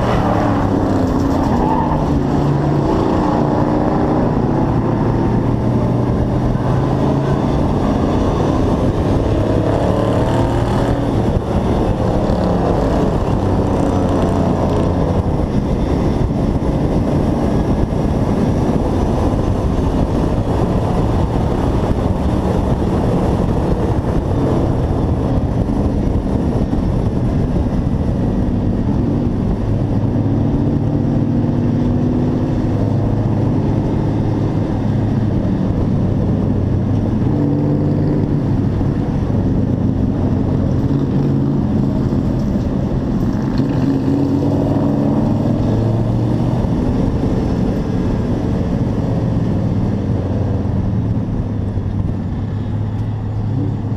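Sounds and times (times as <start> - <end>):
race truck engine running hard: 0.0 - 53.9
wind noise: 0.0 - 53.9.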